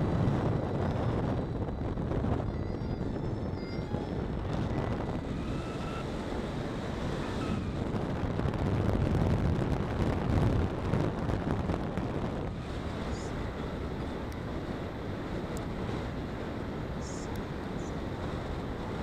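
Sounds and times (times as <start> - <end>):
car road and engine noise: 0.0 - 19.0
wind buffeting microphone: 0.0 - 19.0.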